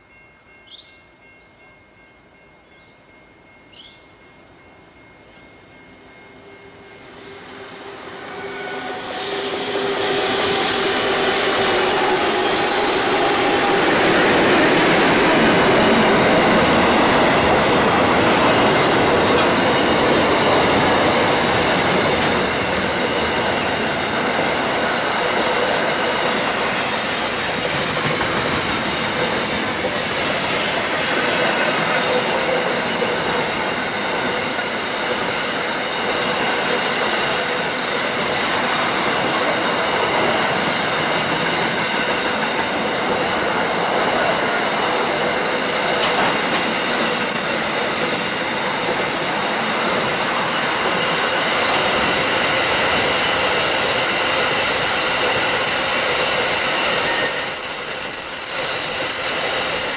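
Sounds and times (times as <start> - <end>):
diesel locomotives rumbling: 6.1 - 59.9
train wheels clattering on rails: 8.6 - 59.9.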